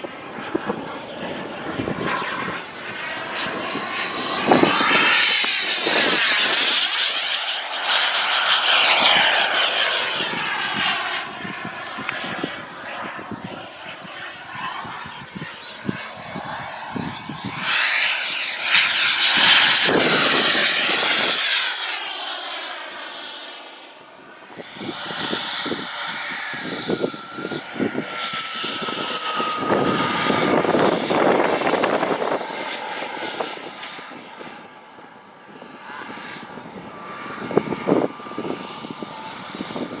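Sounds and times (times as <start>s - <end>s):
wind buffeting microphone: 0.0s - 21.8s, 24.5s - 40.0s
model jet turbine roar: 0.0s - 40.0s.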